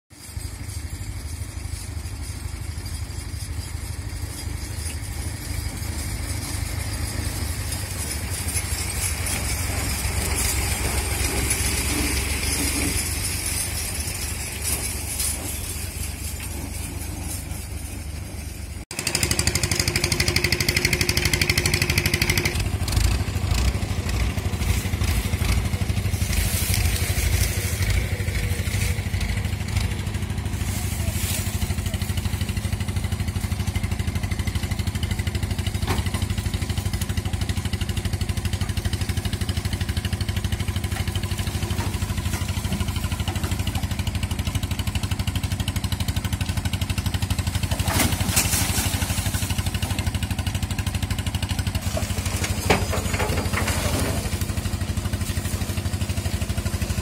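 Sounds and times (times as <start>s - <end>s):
tractor diesel engine running: 0.1s - 57.0s.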